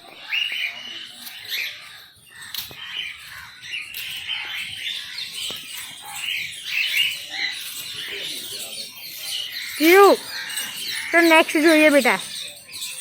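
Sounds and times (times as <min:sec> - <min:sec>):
chorus of high bird calls: 0:00.0 - 0:13.0.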